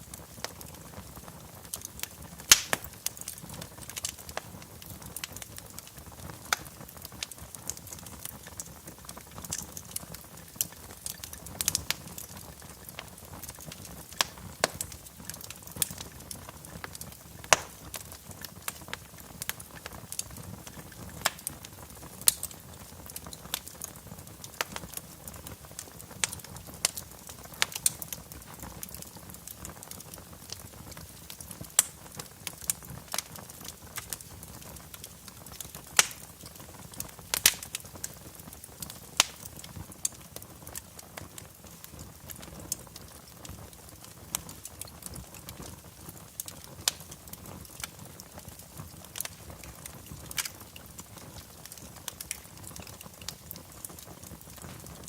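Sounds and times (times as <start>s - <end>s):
fireplace fire crackling: 0.0s - 55.0s.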